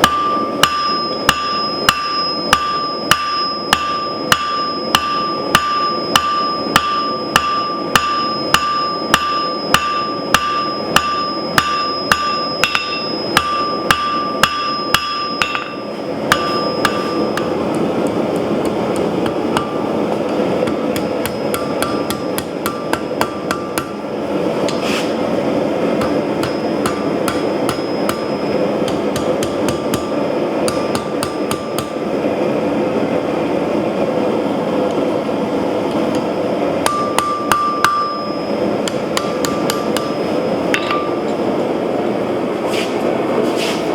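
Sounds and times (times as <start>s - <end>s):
hammer ringing on anvil: 0.0s - 24.1s, 25.8s - 32.2s, 36.8s - 41.5s.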